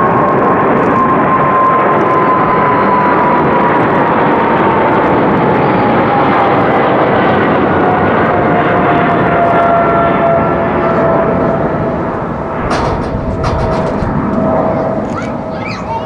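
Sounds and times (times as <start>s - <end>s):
jet engine roar: 0.0s - 16.0s
jet engine whine falling in pitch: 0.0s - 16.0s.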